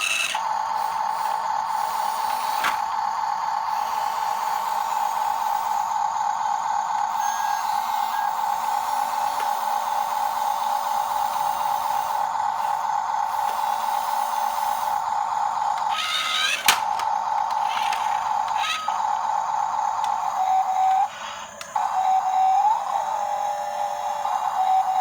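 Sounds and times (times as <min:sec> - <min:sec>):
hiss: 0:00.0 - 0:17.0, 0:17.6 - 0:24.7
small electric motor whining: 0:00.0 - 0:25.0.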